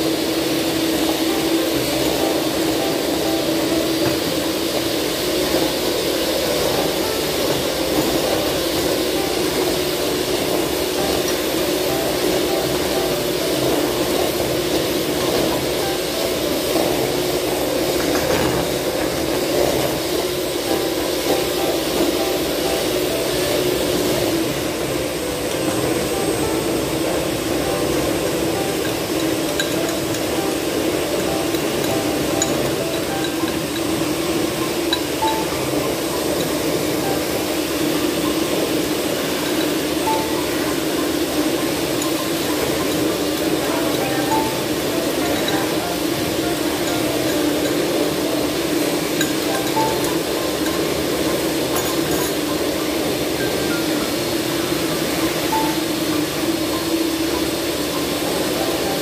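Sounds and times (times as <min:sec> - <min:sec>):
beaters in steel bowl: 0:00.0 - 0:59.0
electric hand mixer running: 0:00.0 - 0:59.0.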